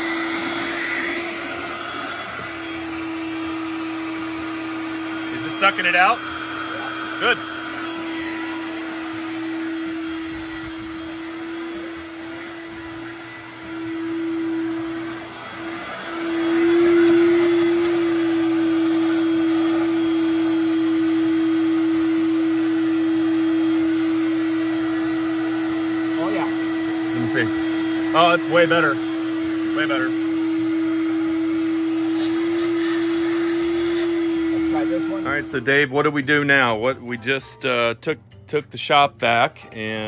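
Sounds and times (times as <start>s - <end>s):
vacuum cleaner running: 0.0s - 37.4s.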